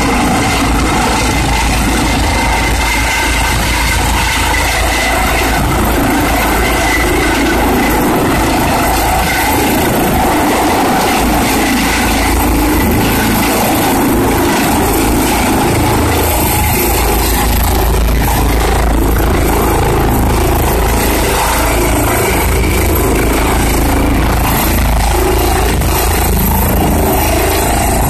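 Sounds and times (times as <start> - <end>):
helicopter rotor beating: 0.0 - 28.0
helicopter turbine whine: 0.0 - 28.0.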